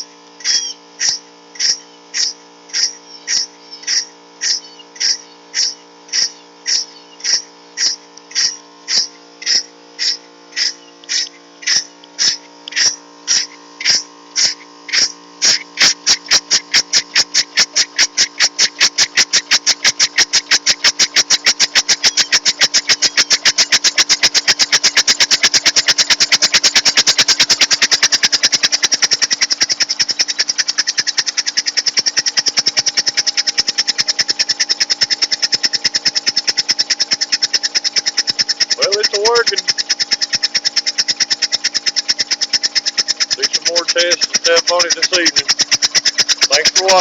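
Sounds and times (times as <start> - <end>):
steady hum: 0.0 - 47.0
steam engine exhaust chuffing: 0.0 - 47.0.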